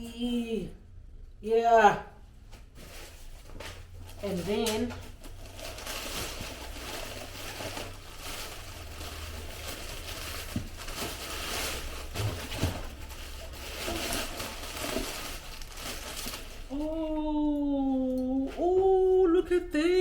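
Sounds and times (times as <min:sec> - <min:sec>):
rustling and handling noise: 0:02.3 - 0:19.2.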